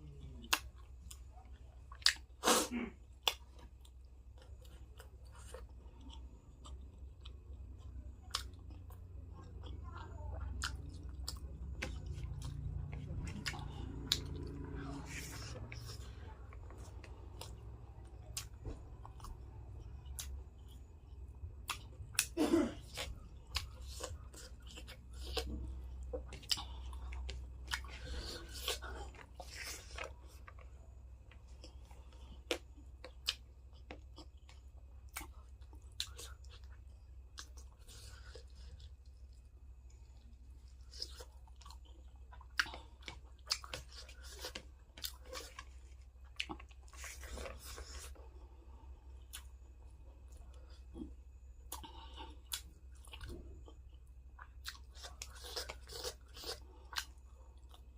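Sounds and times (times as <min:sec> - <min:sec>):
steady low hum: 0:00.0 - 0:57.9
chewing and crunching: 0:03.0 - 0:57.9.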